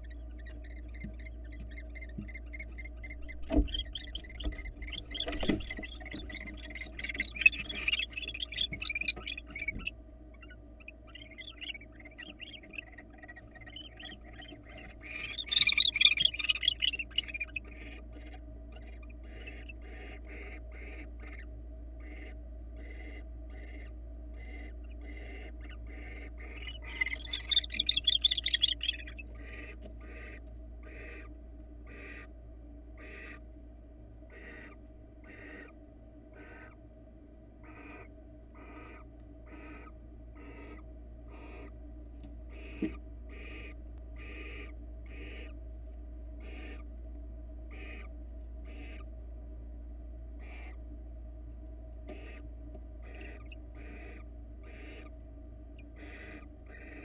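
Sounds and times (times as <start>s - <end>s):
barn owls twittering chatter: 0.0s - 31.3s, 31.9s - 32.3s, 33.0s - 33.4s, 34.3s - 36.8s, 37.6s - 41.7s, 42.5s - 45.6s, 46.4s - 46.9s, 47.7s - 49.1s, 50.4s - 50.8s, 52.1s - 52.4s, 53.0s - 55.2s, 55.8s - 57.0s
soft repeating owl call: 0.0s - 32.3s, 33.0s - 33.5s, 34.3s - 36.8s, 37.6s - 41.8s, 42.5s - 45.6s, 46.4s - 46.9s, 47.7s - 49.1s, 50.4s - 50.8s, 52.1s - 57.0s
electrical hum: 0.0s - 57.0s.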